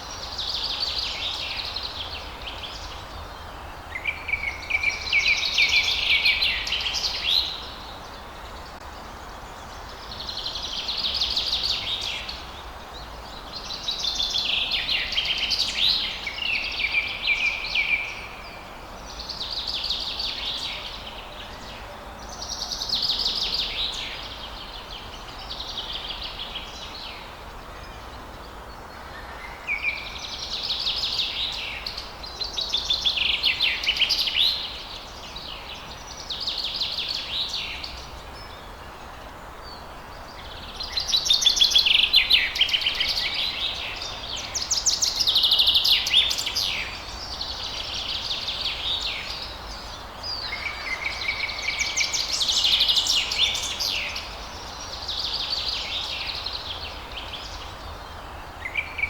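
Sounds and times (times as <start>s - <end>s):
low background hiss: 0.0s - 59.0s
songbirds singing: 0.0s - 59.0s.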